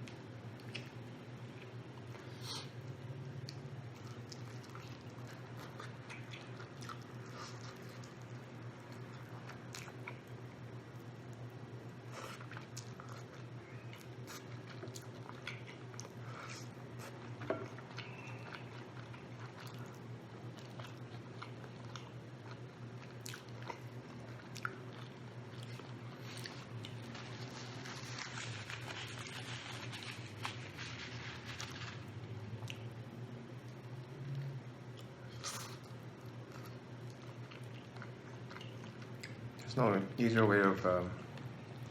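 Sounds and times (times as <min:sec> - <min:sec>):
chewing and biting chicken: 0:03.4 - 0:10.3, 0:12.0 - 0:33.0, 0:33.6 - 0:39.7.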